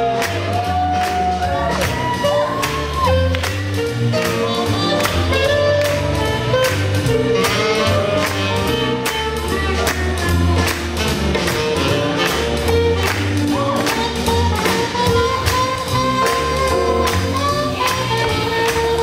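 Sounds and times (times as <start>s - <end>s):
double bass line: 0.0s - 19.0s
drums steady beat: 0.0s - 19.0s
saxophone: 0.0s - 19.0s
trumpet: 0.0s - 19.0s.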